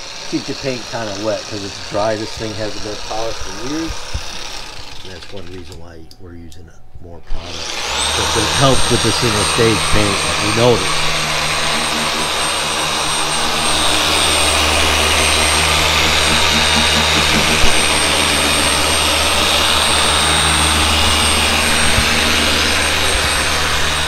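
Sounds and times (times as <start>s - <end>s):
electric polisher running: 0.0s - 5.7s, 7.3s - 24.0s.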